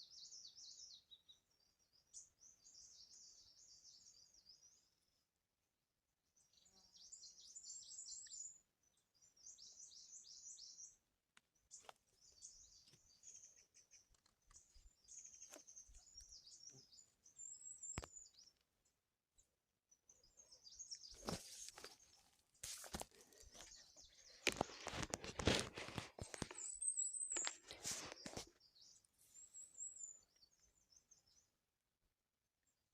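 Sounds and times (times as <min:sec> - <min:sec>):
small bird chirping trills: 0:00.0 - 0:05.3, 0:06.4 - 0:31.8.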